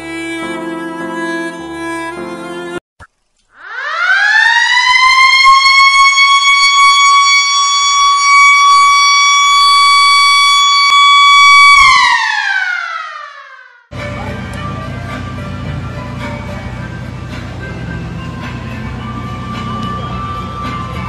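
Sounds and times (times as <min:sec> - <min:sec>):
electric siren wailing: 0:03.6 - 0:21.0.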